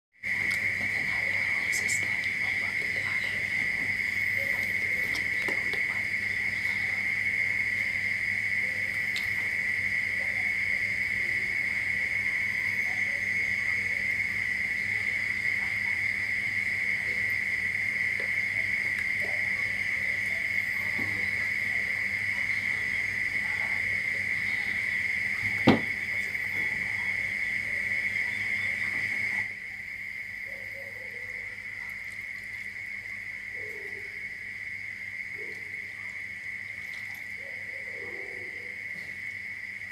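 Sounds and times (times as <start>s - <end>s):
low electrical hum: 0.2s - 39.9s.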